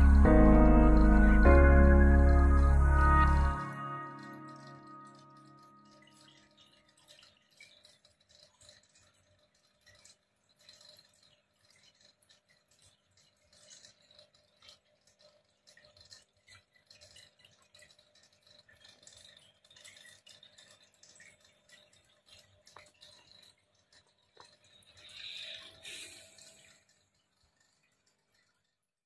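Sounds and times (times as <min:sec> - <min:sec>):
faint crackling in water: 0:03.5 - 0:29.0.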